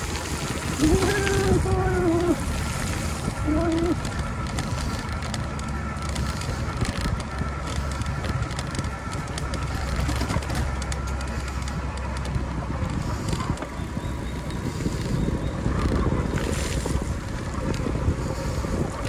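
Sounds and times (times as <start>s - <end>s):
light rattles and clicks: 0.0s - 19.0s
wind rumble on microphone: 0.0s - 19.0s.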